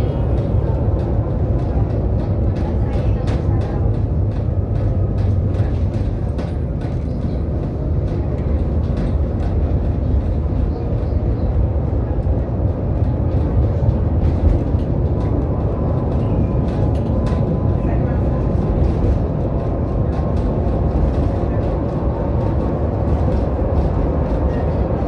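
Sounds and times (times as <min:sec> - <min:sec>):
tram rumbling on track: 0:00.0 - 0:25.0.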